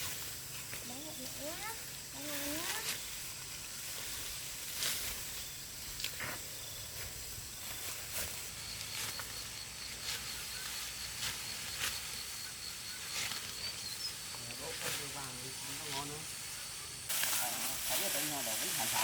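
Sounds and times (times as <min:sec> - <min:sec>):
sickle cutting rice stalks: 0:00.0 - 0:19.0
steady outdoor hiss: 0:00.0 - 0:19.0.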